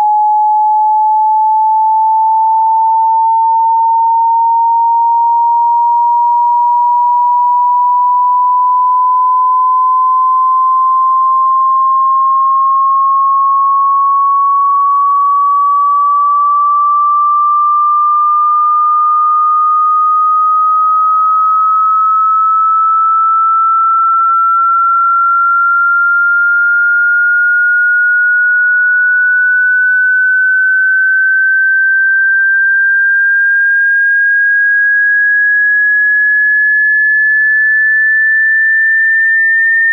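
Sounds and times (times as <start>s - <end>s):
sine tone sweeping upward: 0.0s - 39.9s.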